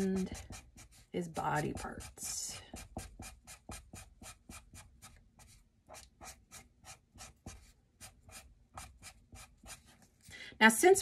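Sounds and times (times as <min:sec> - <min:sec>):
marker rubbing on paper: 0:00.0 - 0:10.0.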